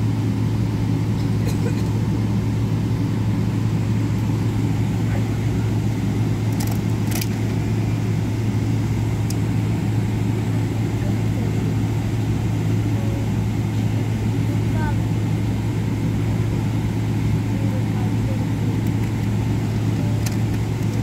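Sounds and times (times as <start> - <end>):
jet engines droning in cabin: 0.0 - 21.0.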